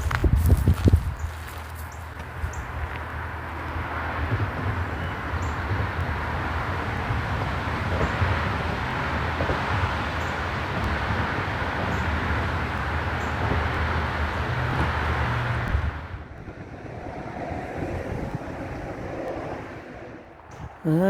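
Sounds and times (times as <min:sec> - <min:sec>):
road traffic rumble: 0:01.2 - 0:21.0.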